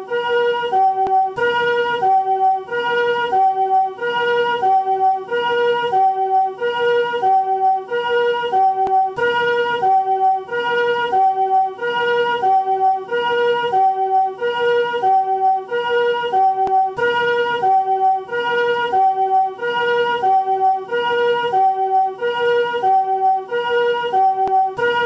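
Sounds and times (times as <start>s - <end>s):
ambulance two-tone siren: 0.0s - 25.0s.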